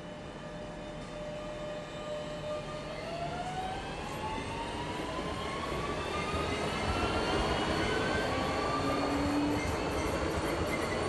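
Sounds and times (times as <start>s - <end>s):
electric train whine rising: 0.0s - 11.0s.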